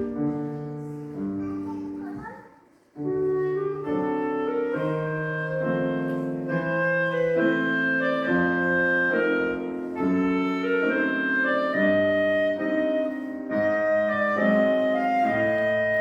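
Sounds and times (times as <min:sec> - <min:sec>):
piano accompaniment: 0:00.0 - 0:16.0
wind instrument melody: 0:03.0 - 0:16.0.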